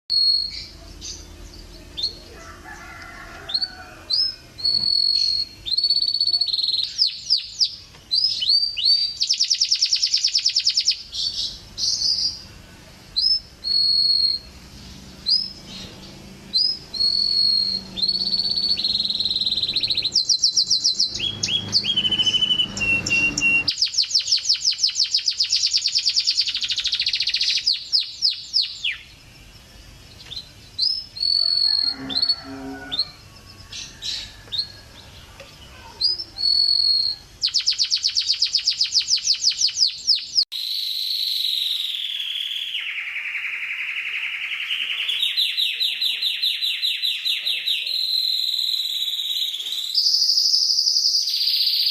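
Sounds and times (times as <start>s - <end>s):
canary singing with trills: 0.1s - 51.9s.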